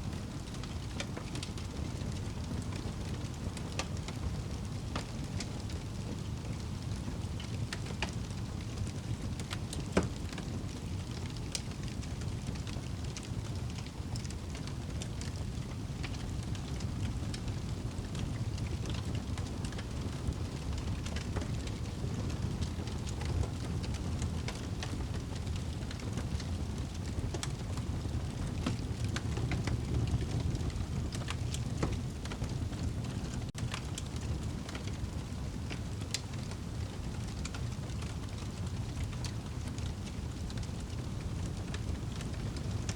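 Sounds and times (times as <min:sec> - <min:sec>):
fire crackling and popping: 0:00.0 - 0:42.9
wood fire burning: 0:00.0 - 0:42.9.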